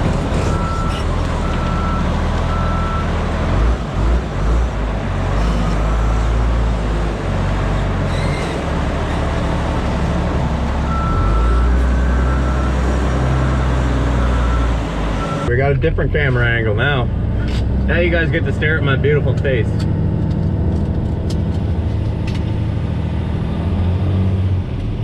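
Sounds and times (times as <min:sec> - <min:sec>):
diesel engine working: 0:00.0 - 0:25.0.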